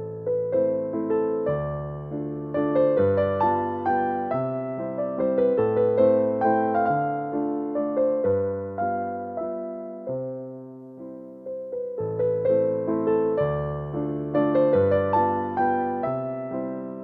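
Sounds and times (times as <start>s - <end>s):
gentle electric piano chords: 0.0s - 17.0s.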